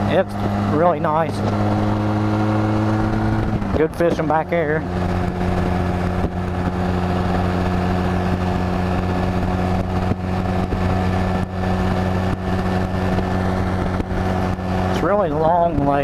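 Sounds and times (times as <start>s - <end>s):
motorcycle engine cruising: 0.0s - 16.0s
wind noise: 1.3s - 16.0s.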